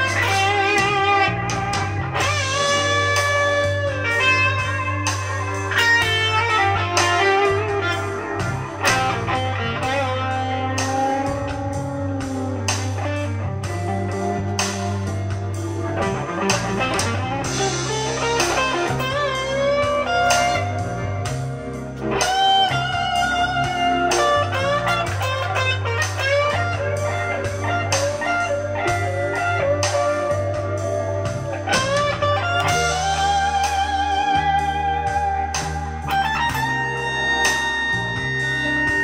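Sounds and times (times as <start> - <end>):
backing track of bass and drums: 0.0 - 39.0
overdriven electric guitar lead: 0.0 - 39.0.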